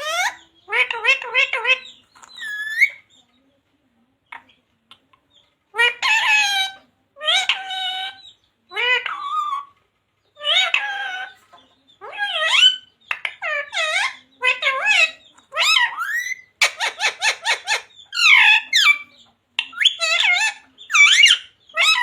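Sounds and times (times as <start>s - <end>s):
parrot vocalizing: 0.0s - 3.1s, 5.7s - 9.7s, 10.4s - 11.4s, 12.0s - 22.0s.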